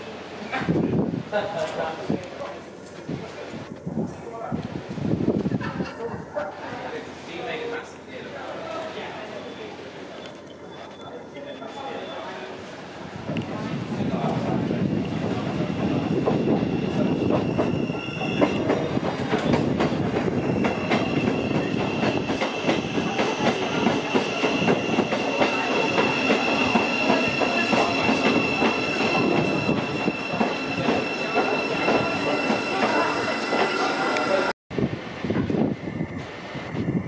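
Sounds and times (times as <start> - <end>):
train high whine: 7.0 - 37.0.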